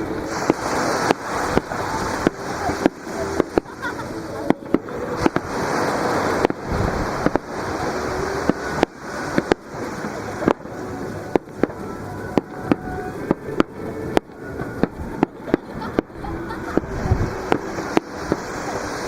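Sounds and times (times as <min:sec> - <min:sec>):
fireworks bursting: 0:00.0 - 0:19.0
surf breaking on beach: 0:00.0 - 0:19.0.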